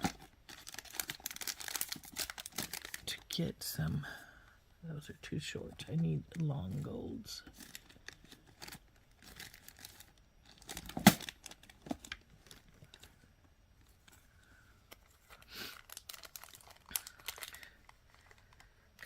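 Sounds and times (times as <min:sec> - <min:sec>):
packets rustling and crinkling: 0:00.0 - 0:03.4, 0:06.4 - 0:19.0.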